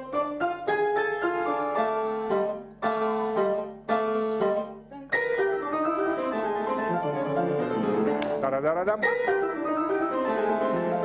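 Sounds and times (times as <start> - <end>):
piano playing: 0.0 - 11.0.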